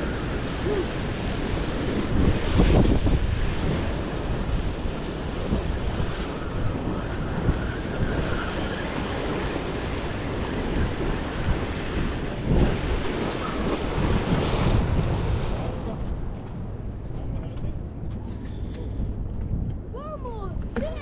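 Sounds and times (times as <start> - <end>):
sea surf washing: 0.0 - 19.2
wind on microphone: 0.0 - 21.0.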